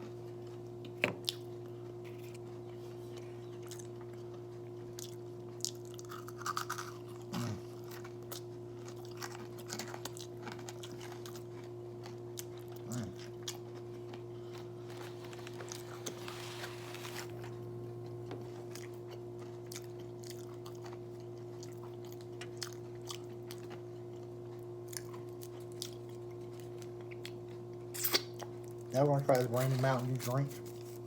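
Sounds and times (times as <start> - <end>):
low electrical hum: 0.0 - 31.0
person chewing food: 0.2 - 28.9.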